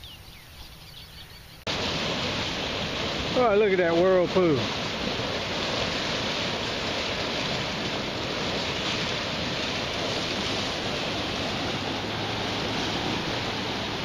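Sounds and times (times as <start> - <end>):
floodwater rushing over concrete: 1.7 - 14.0.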